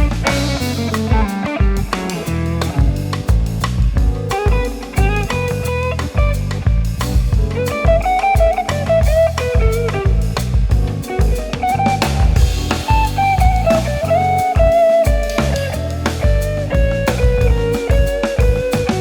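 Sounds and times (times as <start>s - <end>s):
bass notes: 0.0s - 19.0s
drum kit beat: 0.0s - 19.0s.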